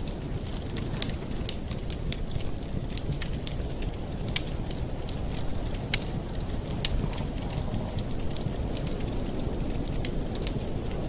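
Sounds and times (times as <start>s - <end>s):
campfire wood popping: 0.0s - 11.0s
fire low rumble: 0.0s - 11.0s.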